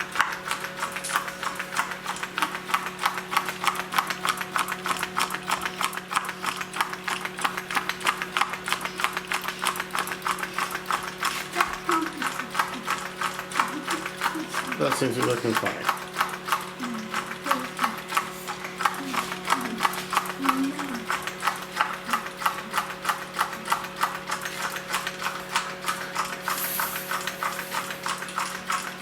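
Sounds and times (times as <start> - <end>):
engine linkage clacking rhythmically: 0.0 - 29.0.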